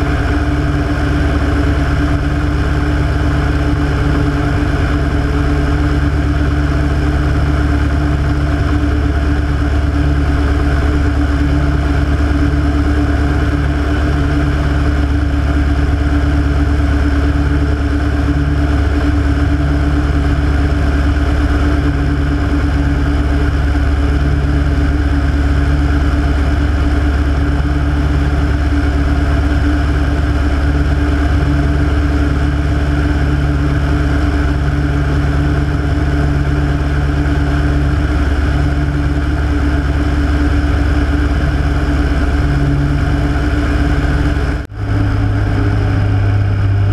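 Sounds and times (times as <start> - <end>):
radial aircraft engine running: 0.0 - 46.9.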